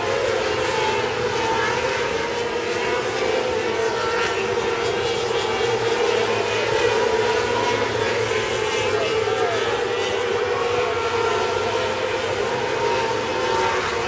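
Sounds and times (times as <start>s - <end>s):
race car engine running: 0.0s - 14.0s.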